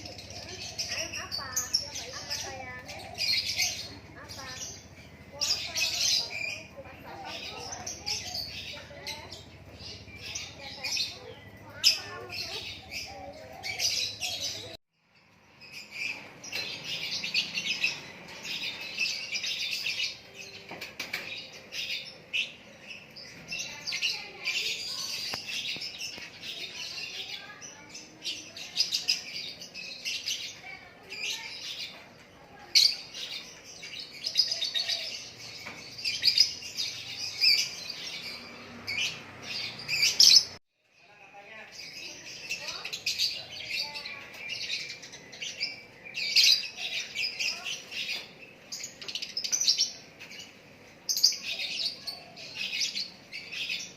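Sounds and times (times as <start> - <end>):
songbird chirping and twittering: 0.0 - 53.9.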